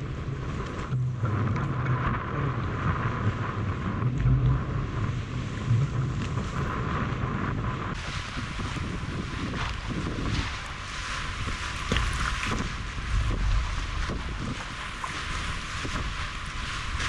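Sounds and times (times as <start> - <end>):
wind buffeting microphone: 0.0 - 17.0
water lapping against boat hull: 0.1 - 17.0.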